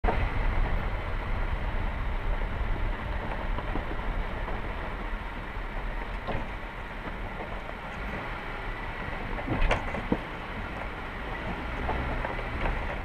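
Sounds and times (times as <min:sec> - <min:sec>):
vehicle driving on gravel: 0:00.0 - 0:13.0.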